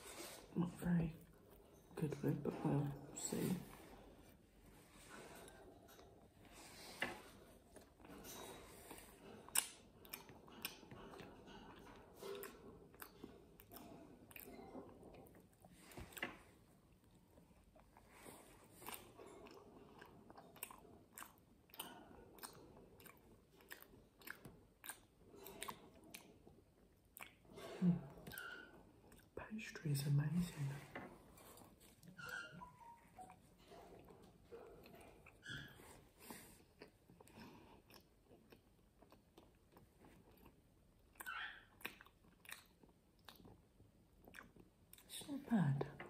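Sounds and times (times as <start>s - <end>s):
person chewing crisp pastry: 3.7s - 29.4s, 33.4s - 45.1s.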